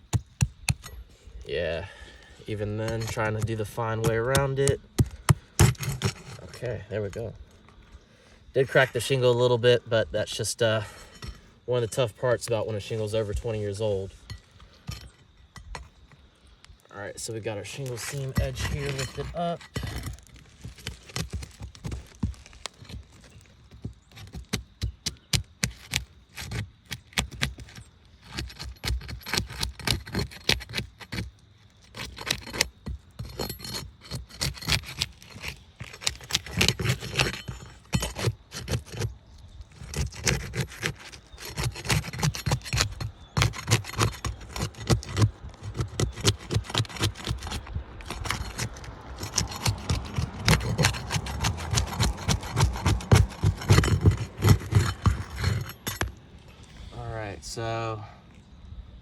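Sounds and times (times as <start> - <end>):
roof shingles scraping and crackling: 0.0 - 7.4, 17.1 - 57.0.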